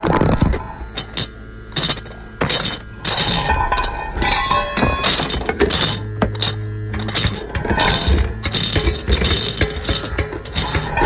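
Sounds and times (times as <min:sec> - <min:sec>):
sharp clinks and knocks: 0:00.5 - 0:11.0.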